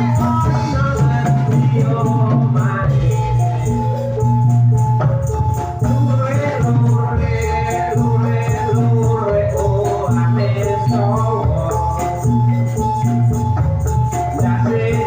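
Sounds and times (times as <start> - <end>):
loud traditional music: 0.0 - 15.0
rattling percussion: 0.0 - 15.0.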